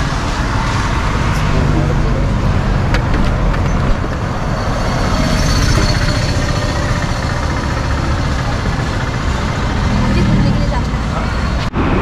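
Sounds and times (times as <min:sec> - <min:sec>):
vehicles running and idling: 0:00.0 - 0:12.0.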